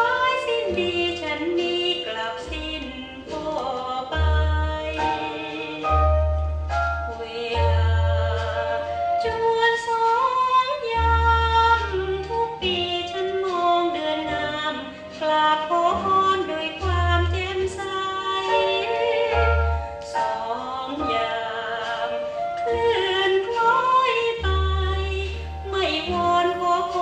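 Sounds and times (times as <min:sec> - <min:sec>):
deep bass notes: 0:00.0 - 0:09.7, 0:10.8 - 0:27.0
woman singing slow song: 0:00.0 - 0:27.0.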